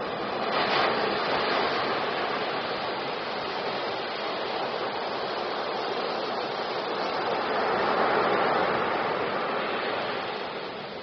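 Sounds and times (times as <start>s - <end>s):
waves breaking on shore: 0.0s - 11.0s.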